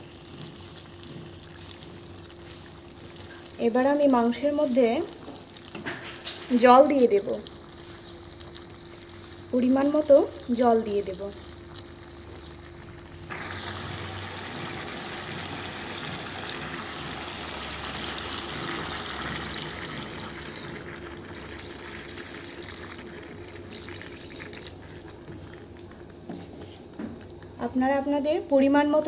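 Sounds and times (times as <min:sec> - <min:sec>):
water pouring into a pan: 0:00.0 - 0:25.3.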